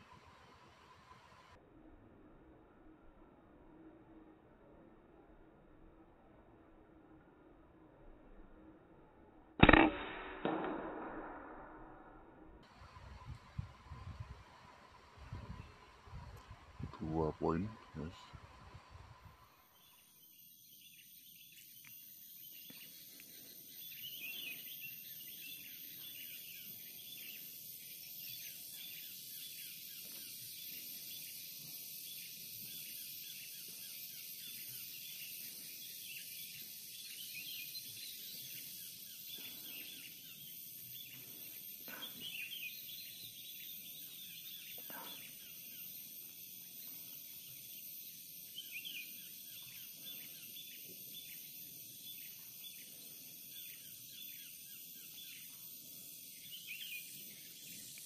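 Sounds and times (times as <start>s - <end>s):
steady high-pitched hiss: 0.0s - 1.6s, 9.6s - 58.0s.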